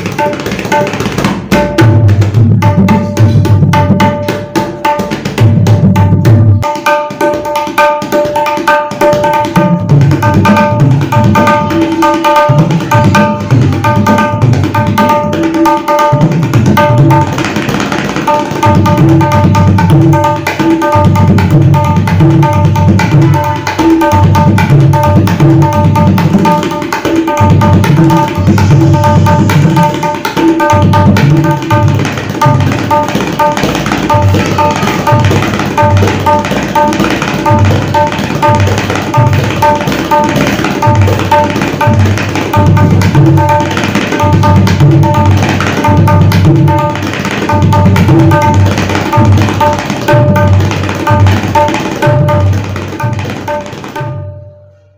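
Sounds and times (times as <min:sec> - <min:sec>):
tabla playing: 0:00.0 - 0:54.9.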